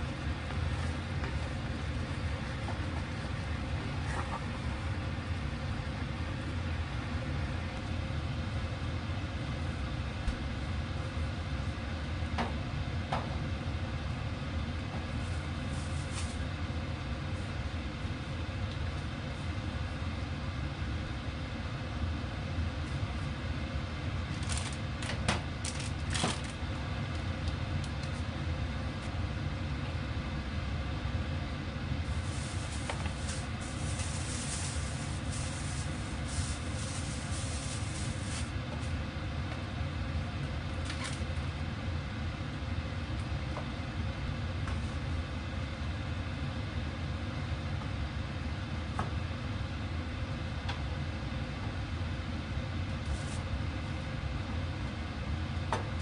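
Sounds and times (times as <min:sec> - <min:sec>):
range hood fan rumbling: 0:00.0 - 0:56.0.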